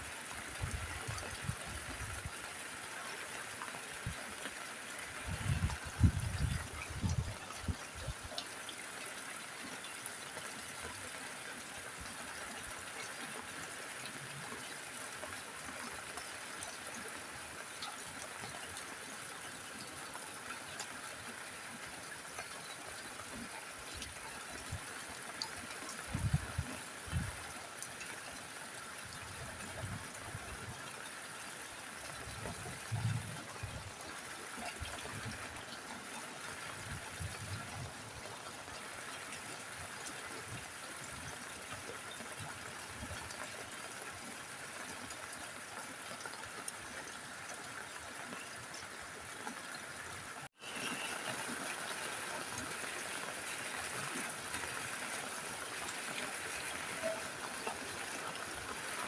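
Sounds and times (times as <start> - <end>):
rain falling on a roof: 0.0 - 59.0.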